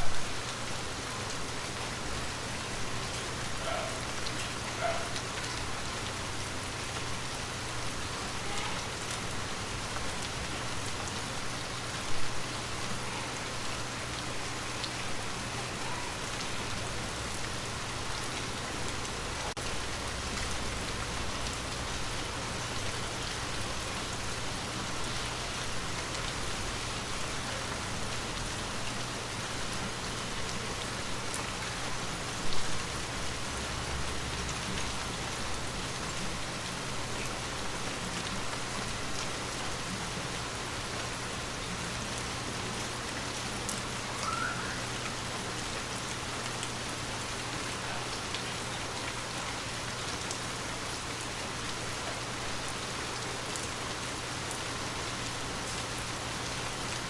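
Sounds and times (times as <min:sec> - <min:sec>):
rain falling on a window: 0:00.0 - 0:57.0.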